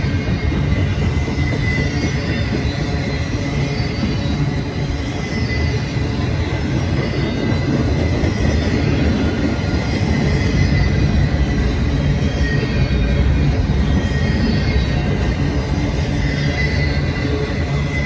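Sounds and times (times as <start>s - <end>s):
freight train rumbling past: 0.0s - 18.0s
high ringing from train wheels: 0.0s - 18.0s.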